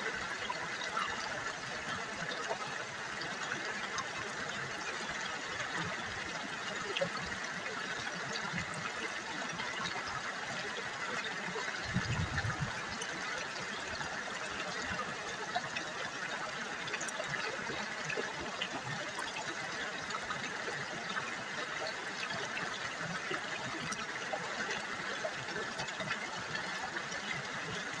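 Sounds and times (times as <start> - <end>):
river water babbling: 0.0 - 28.0.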